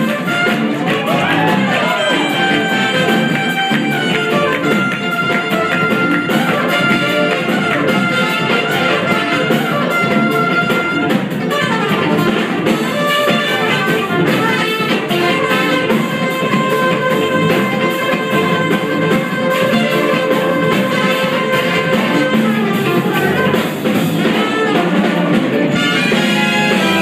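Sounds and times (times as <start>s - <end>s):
jazz fusion band playing: 0.0s - 27.0s
trumpets and saxophone melody: 0.0s - 27.0s.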